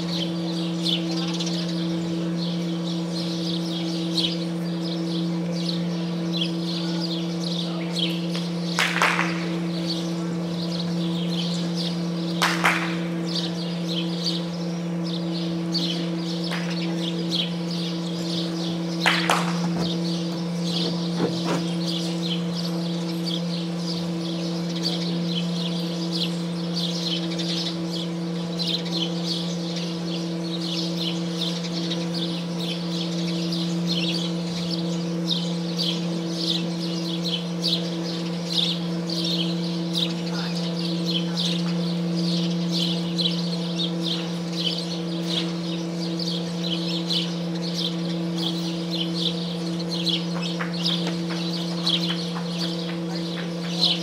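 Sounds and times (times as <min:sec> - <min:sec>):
low electrical hum: 0:00.0 - 0:54.0
small birds chirping: 0:00.0 - 0:54.0.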